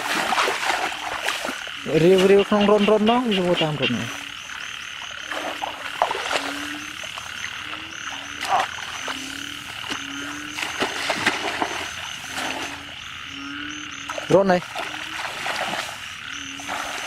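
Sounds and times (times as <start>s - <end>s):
frogs croaking: 0.0s - 17.0s
trilling frog chorus: 0.0s - 17.0s.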